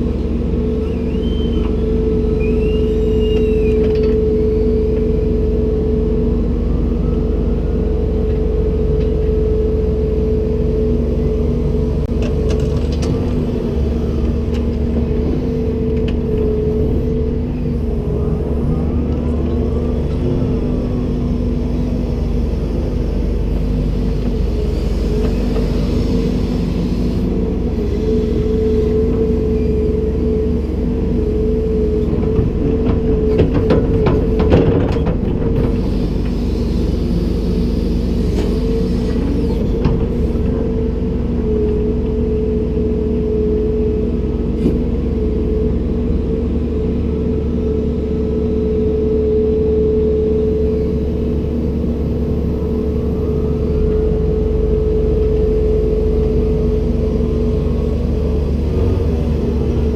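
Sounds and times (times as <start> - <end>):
excavator engine running: 0.0 - 59.9.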